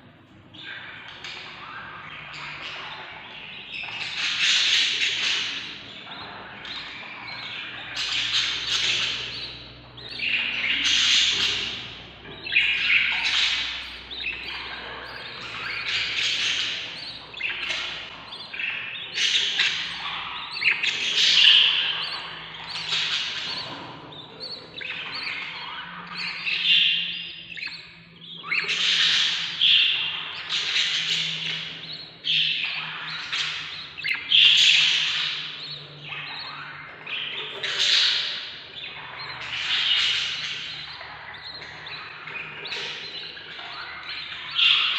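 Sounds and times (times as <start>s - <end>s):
chicks squawking: 0.0s - 44.9s.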